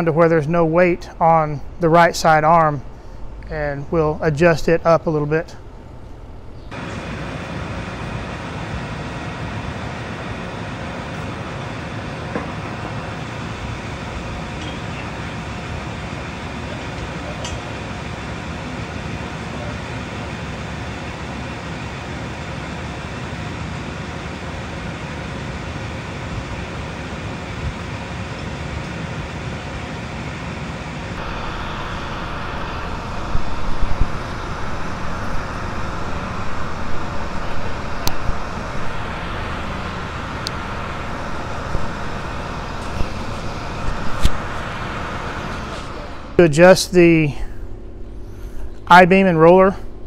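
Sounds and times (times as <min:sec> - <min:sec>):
tractor engine idling: 0:00.0 - 0:50.0.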